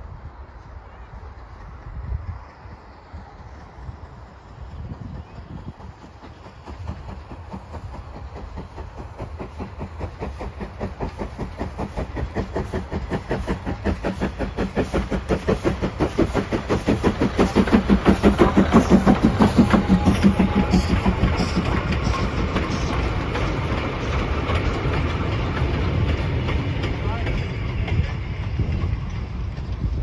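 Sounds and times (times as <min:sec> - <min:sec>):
steam locomotive exhaust beats: 0:00.0 - 0:30.0
wagons rumbling and clicking: 0:01.3 - 0:30.0.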